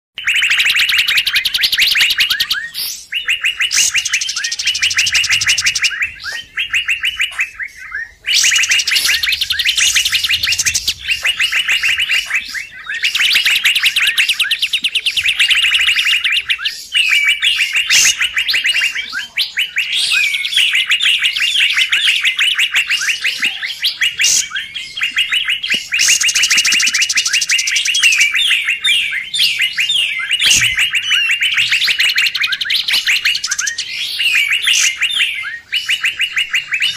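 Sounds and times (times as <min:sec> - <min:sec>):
bird chattering trills: 0:00.2 - 0:36.9.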